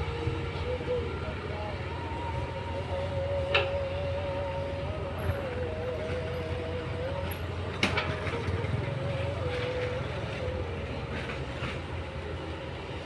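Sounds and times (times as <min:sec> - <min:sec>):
distant heavy machinery engines: 0:00.0 - 0:13.0
wavering whine: 0:00.0 - 0:13.0.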